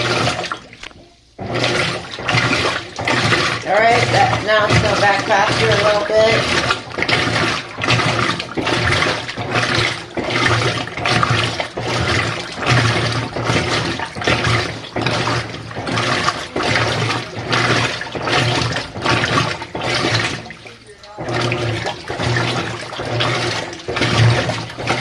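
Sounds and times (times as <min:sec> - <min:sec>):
low motor hum: 0:00.0 - 0:25.0
washing machine water sloshing: 0:00.0 - 0:25.0.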